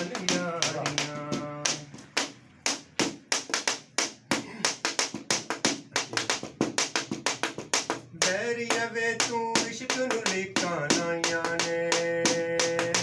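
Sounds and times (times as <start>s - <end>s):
hand claps: 0.0s - 13.0s
hand percussion taps: 0.0s - 13.0s.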